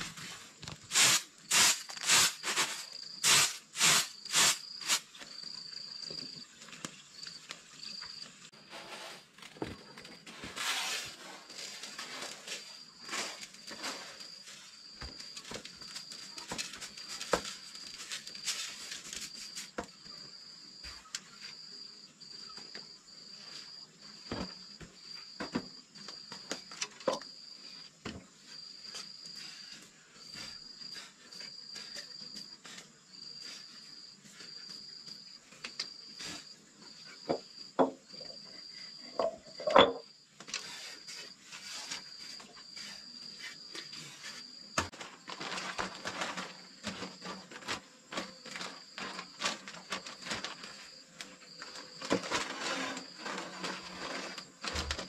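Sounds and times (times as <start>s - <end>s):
insects trilling: 0.0s - 8.5s, 9.6s - 55.0s.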